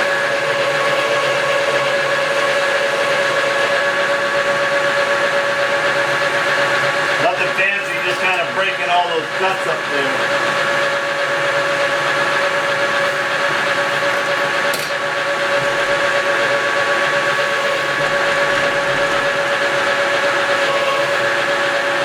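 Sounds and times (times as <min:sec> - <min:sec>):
metal lathe whining: 0:00.0 - 0:22.0.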